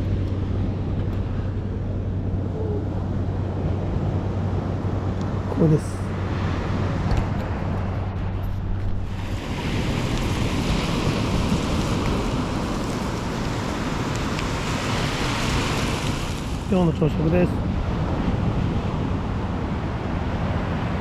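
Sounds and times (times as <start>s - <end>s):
wind buffeting microphone: 0.0s - 21.0s
sea surf washing: 2.2s - 21.0s.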